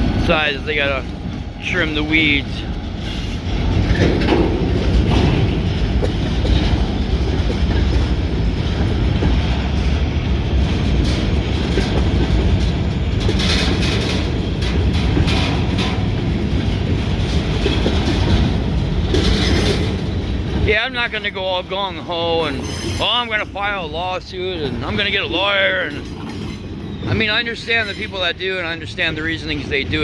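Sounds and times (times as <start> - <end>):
freight train rumble: 0.0 - 30.0
wheels clacking over rail joints: 0.0 - 30.0.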